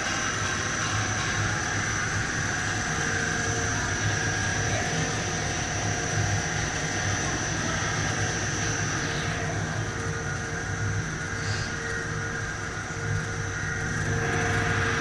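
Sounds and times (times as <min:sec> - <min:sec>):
high whine: 0:00.0 - 0:15.0
low hum: 0:00.0 - 0:15.0
machine drone: 0:00.0 - 0:15.0.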